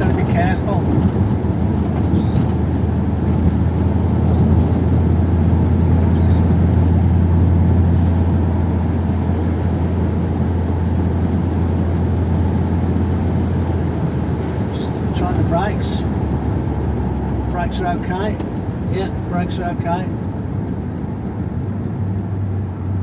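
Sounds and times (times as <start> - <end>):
car engine burbling: 0.0 - 23.0
tyre and road noise: 0.0 - 23.0.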